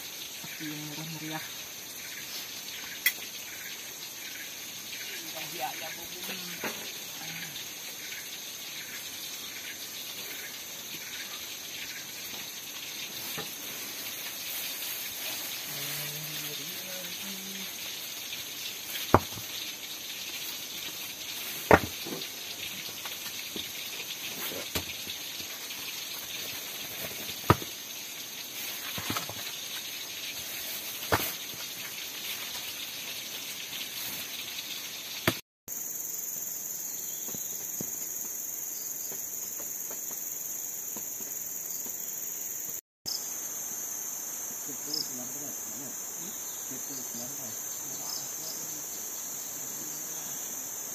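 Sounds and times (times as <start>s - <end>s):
jungle insects chorus: 0.0s - 50.9s.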